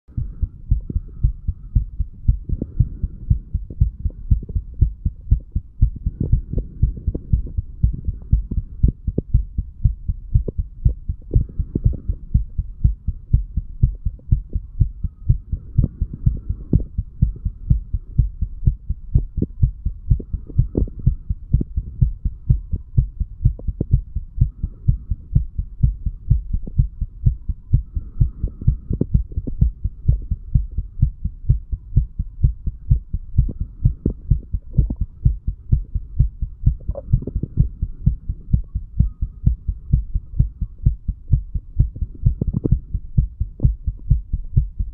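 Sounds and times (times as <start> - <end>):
low steady hum: 0.0 - 44.9
heart beating: 0.1 - 44.9.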